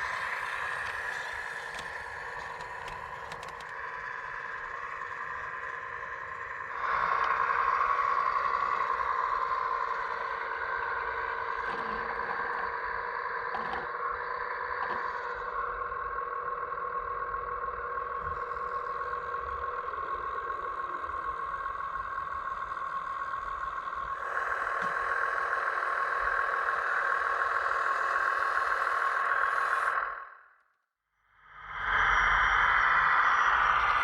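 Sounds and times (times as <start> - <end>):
electric motor and pump whine: 0.0 - 30.5.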